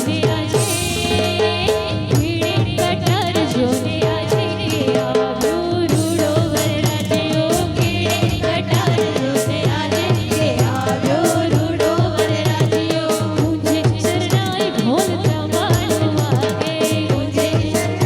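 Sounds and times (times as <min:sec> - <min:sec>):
person singing folk melody: 0:00.0 - 0:18.0
steady drum beat: 0:00.0 - 0:18.0.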